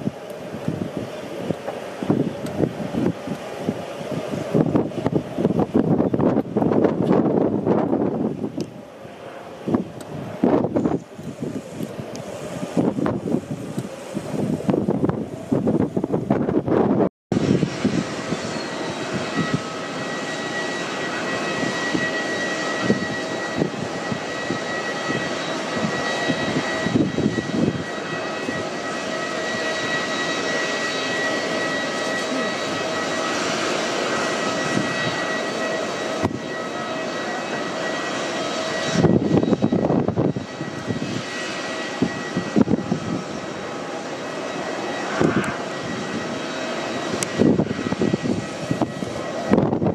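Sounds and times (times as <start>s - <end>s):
jet engines whining: 0.0s - 49.9s
wind buffeting microphone: 0.0s - 49.9s.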